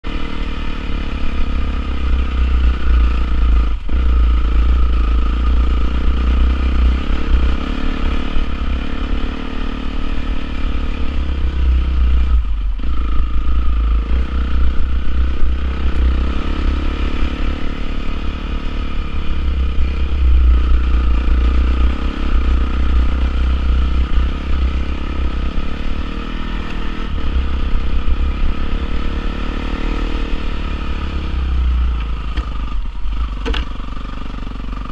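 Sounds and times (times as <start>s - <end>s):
motorcycle engine running hard: 0.0s - 34.9s.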